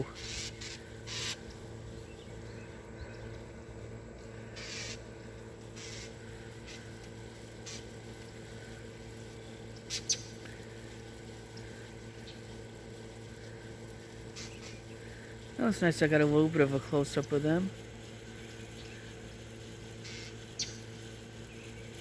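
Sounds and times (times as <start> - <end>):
small birds calling: 0.0 - 16.4, 17.2 - 22.0
air-conditioning unit hum: 0.0 - 22.0.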